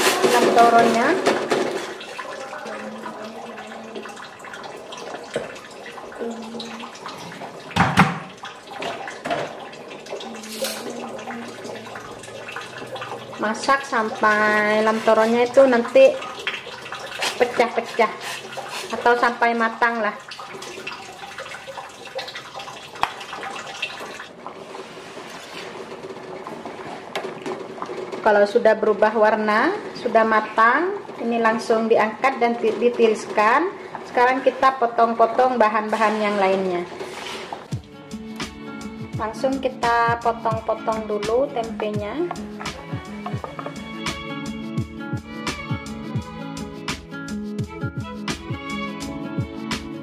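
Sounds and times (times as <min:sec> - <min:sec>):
pot of water bubbling: 0:00.0 - 0:46.3.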